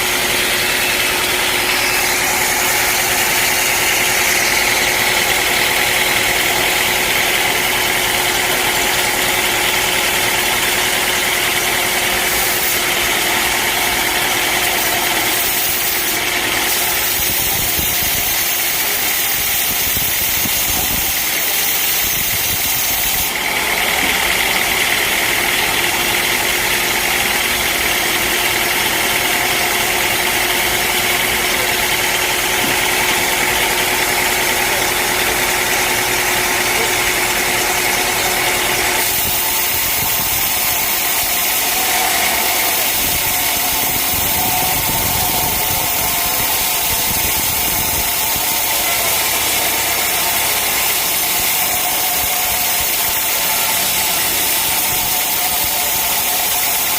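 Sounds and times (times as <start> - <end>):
sawmill machinery drone: 0.0 - 56.9.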